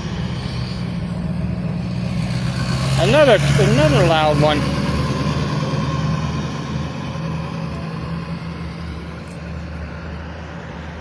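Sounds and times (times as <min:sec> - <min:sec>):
vehicle engine driving past: 0:00.0 - 0:10.1.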